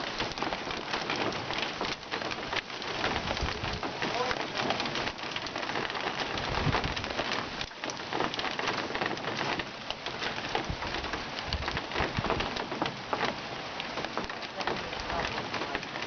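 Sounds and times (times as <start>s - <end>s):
heavy rain falling: 0.0s - 16.0s
raindrops hitting: 0.0s - 16.0s.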